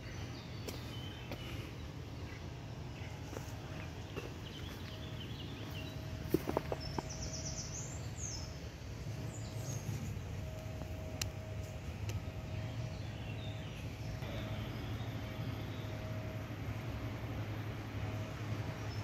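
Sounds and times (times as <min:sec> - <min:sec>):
small birds chirping: 0:00.0 - 0:16.8
low background hum: 0:00.0 - 0:19.0.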